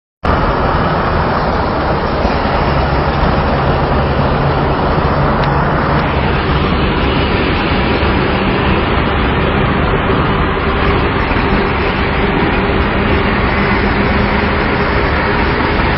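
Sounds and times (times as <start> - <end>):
low engine drone: 0.2 - 15.9
road and traffic noise: 0.2 - 15.9.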